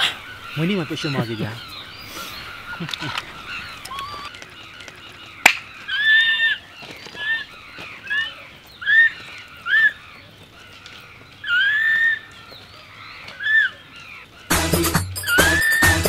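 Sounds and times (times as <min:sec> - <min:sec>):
bird calling: 0:00.0 - 0:16.0.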